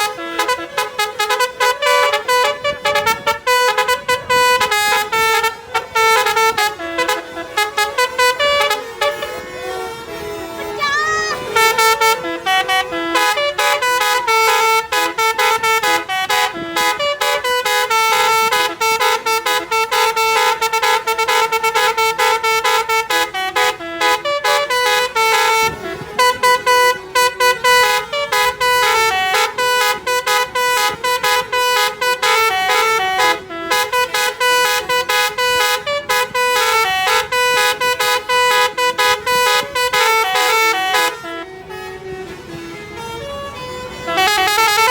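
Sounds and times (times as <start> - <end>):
multi-tone bus horn melody: 0.0 - 44.9.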